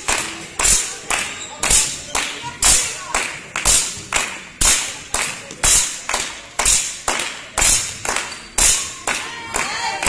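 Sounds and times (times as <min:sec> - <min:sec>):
spectators clapping in rhythm: 0:00.0 - 0:10.0.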